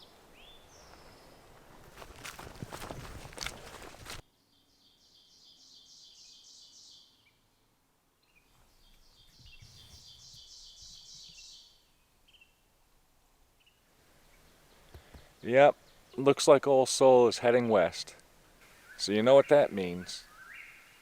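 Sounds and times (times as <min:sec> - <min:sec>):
songbird singing: 0:00.0 - 0:12.9, 0:13.5 - 0:17.8, 0:18.5 - 0:21.0.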